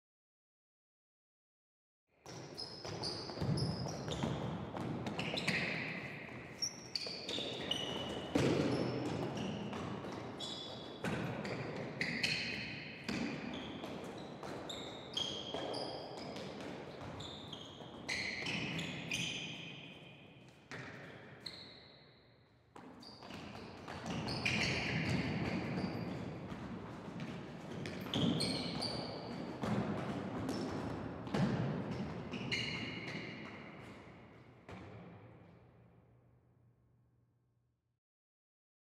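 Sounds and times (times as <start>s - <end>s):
sneakers squeaking on court floor: 2.3s - 22.2s, 22.8s - 34.9s.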